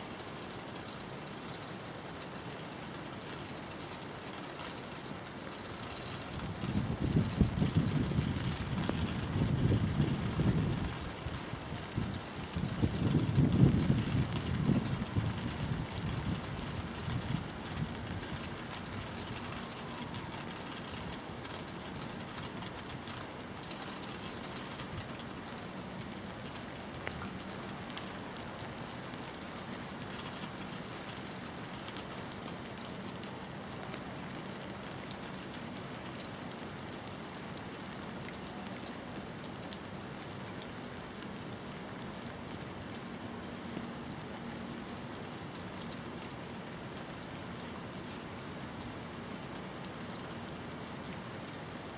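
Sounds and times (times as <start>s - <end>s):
rain hissing: 0.0s - 51.9s
sharp water drips: 0.1s - 51.9s.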